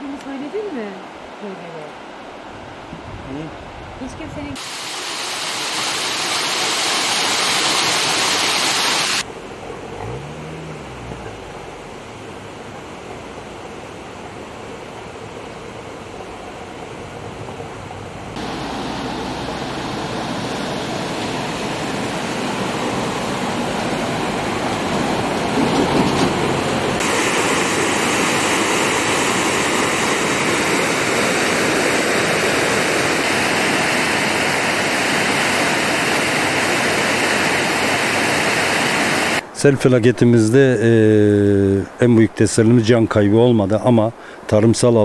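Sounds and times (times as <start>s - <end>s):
river rushing: 0.0s - 39.6s.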